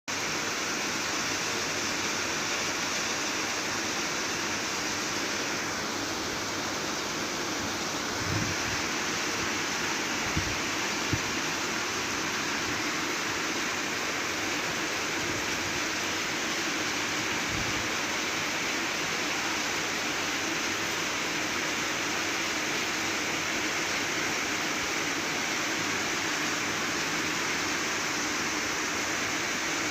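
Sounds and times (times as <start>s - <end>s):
heavy rain: 0.1s - 29.9s.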